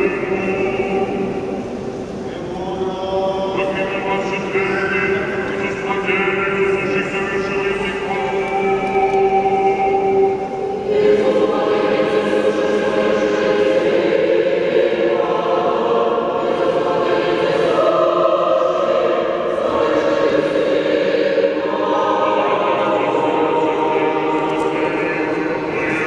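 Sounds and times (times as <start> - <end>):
choir chanting unaccompanied: 0.0 - 26.0.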